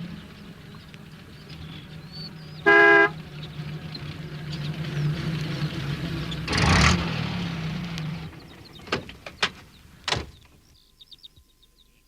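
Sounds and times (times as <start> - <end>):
van engine running: 0.0 - 11.0.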